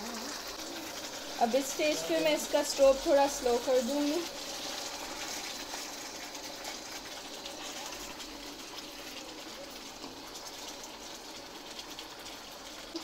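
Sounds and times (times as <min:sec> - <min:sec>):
gravy sizzling in oil: 0:00.0 - 0:13.0.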